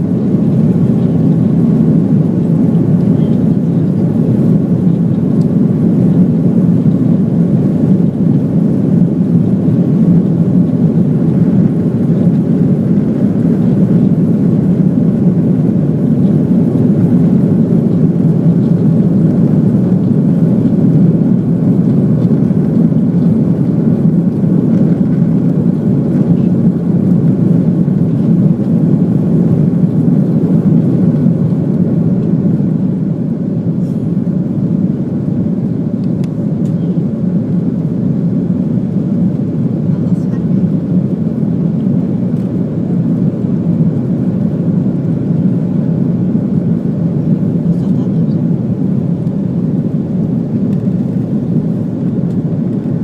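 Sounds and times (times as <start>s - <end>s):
airliner engines rumbling: 0.0s - 53.0s.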